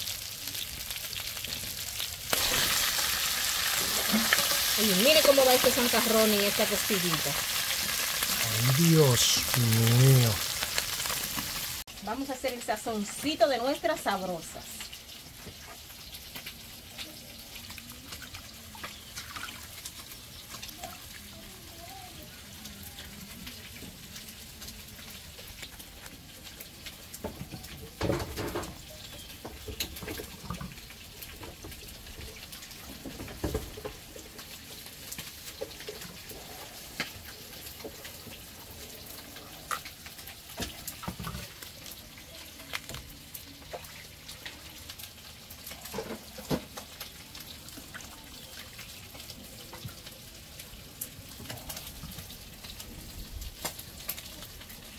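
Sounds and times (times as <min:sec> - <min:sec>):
pot bubbling hiss: 0:00.0 - 0:54.9.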